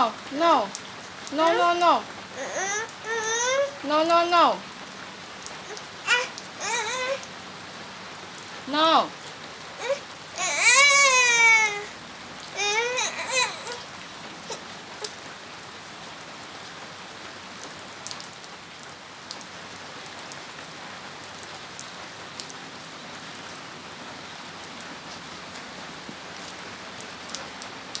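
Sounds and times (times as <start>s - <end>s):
raindrops ticking close by: 0.0s - 28.0s
steady rain falling: 0.0s - 28.0s.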